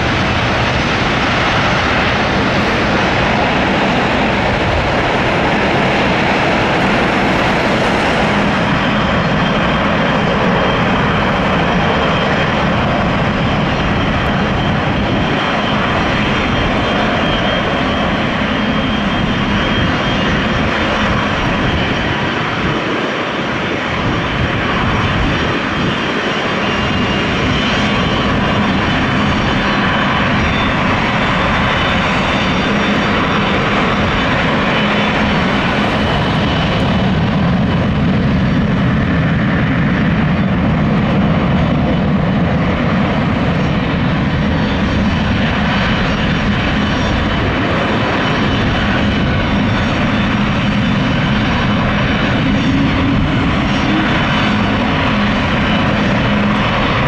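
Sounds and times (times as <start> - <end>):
jet airliner engines running: 0.0 - 57.0.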